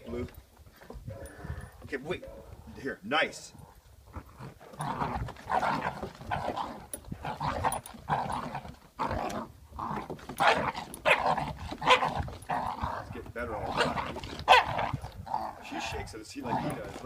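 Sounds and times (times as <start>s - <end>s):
dogs play growling: 0.7s - 2.8s, 3.5s - 17.0s.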